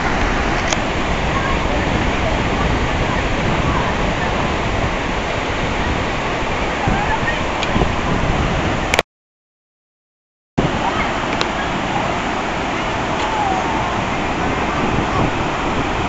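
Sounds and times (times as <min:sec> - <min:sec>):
floodwater rushing over road: 0:00.0 - 0:09.0, 0:10.6 - 0:16.0
wind rumbling on microphone: 0:00.0 - 0:09.0, 0:10.6 - 0:16.0.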